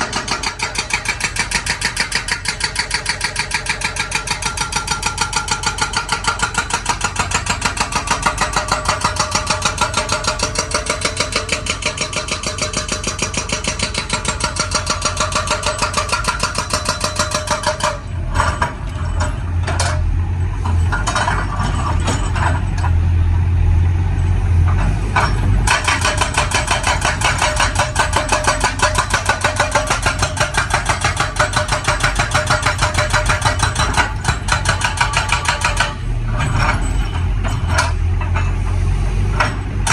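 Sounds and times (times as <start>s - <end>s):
hydraulic breaker hammering rock: 0.0s - 22.9s, 24.7s - 38.6s
excavator engine running: 0.0s - 39.9s.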